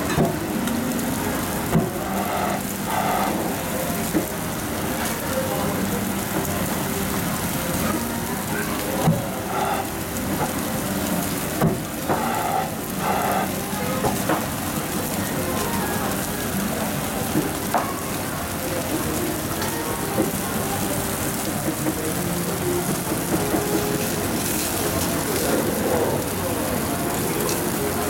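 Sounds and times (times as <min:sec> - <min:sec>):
meat sizzling on a grill: 0:00.0 - 0:28.0.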